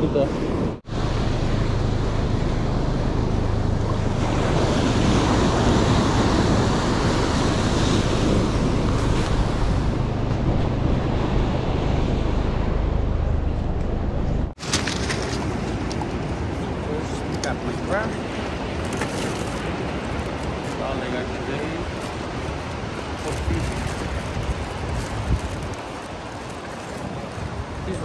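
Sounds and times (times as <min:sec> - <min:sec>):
ocean surf washing up beach: 0:00.0 - 0:12.8, 0:14.5 - 0:28.0
wind buffeting microphone: 0:00.0 - 0:14.6, 0:15.2 - 0:28.0.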